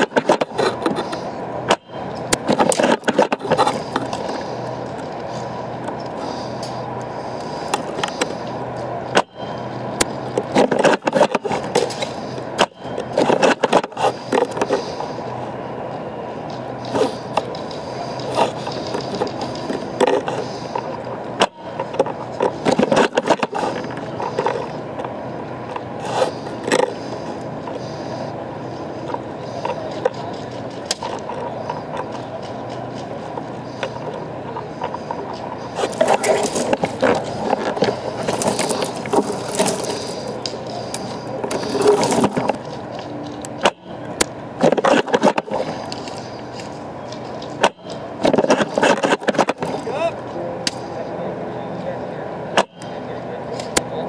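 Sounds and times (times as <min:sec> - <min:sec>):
handling noise scraping and knocking: 0:00.0 - 0:06.8, 0:07.6 - 0:15.0, 0:16.5 - 0:27.8, 0:29.0 - 0:49.9.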